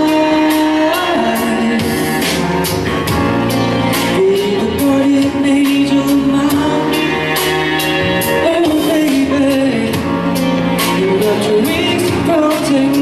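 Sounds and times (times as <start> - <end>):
person singing: 0.0 - 2.6, 3.9 - 13.0
amplified pop backing music: 0.0 - 13.0.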